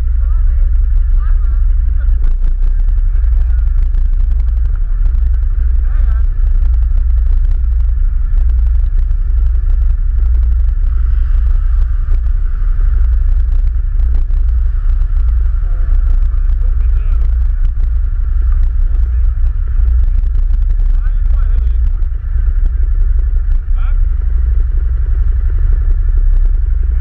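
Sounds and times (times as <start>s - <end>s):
atv engine running: 0.0s - 27.0s
wind rumble on microphone: 0.0s - 27.0s.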